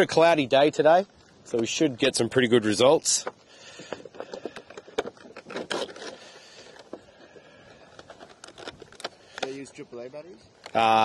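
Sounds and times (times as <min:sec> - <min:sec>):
small clicks scrapes and rustles: 0:00.0 - 0:10.8.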